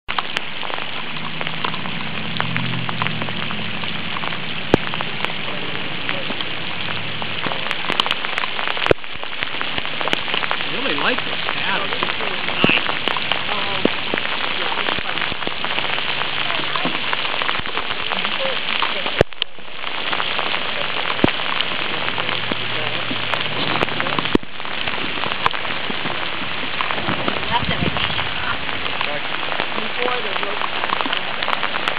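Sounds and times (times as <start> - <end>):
rain pattering on water: 0.1 - 31.9.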